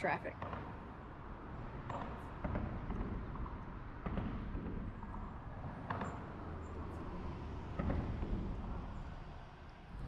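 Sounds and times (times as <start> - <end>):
low rumble of passing vehicles: 0.0 - 10.0.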